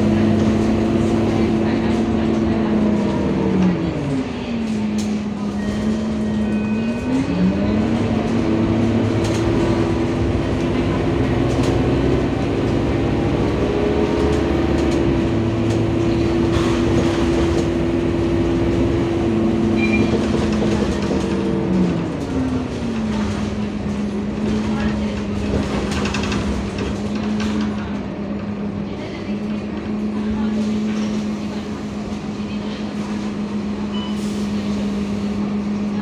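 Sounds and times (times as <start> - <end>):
bus drivetrain whine: 0.0 - 36.0
road and engine rumble: 0.0 - 36.0.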